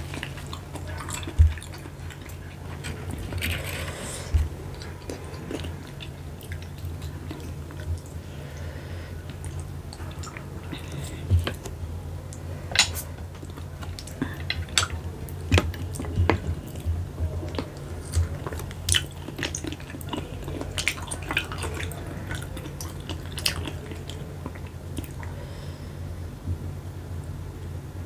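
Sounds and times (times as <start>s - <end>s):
chewing: 0.0s - 25.6s.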